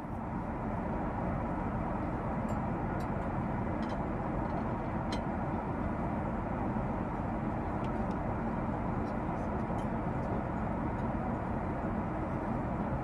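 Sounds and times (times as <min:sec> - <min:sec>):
airplane cabin hum: 0:00.0 - 0:13.0.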